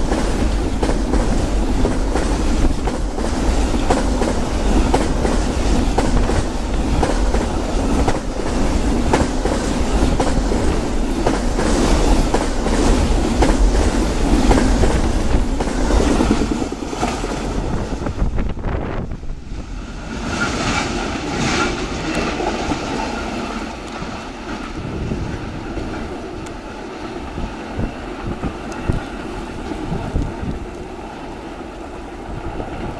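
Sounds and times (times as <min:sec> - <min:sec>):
train rushing past: 0:00.0 - 0:32.9
train wheels on rails: 0:00.0 - 0:32.9.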